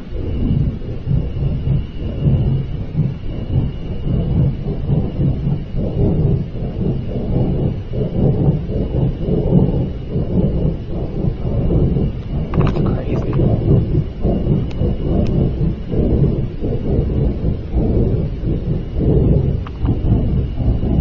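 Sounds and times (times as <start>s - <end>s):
faint high whine: 0.0s - 21.0s
low rumbling roar: 0.0s - 21.0s.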